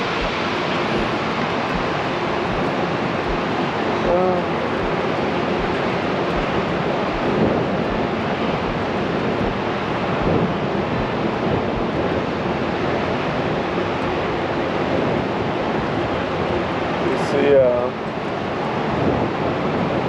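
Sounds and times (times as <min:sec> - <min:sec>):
wind gusting over microphone: 0:00.0 - 0:20.0.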